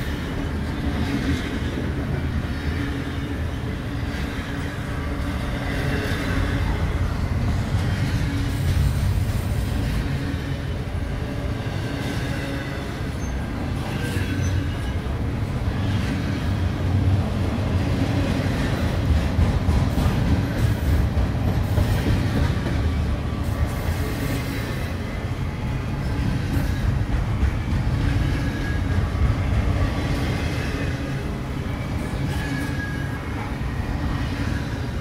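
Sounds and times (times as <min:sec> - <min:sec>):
freight train wheels rumbling: 0:00.0 - 0:35.0
train wheels clacking: 0:00.0 - 0:35.0.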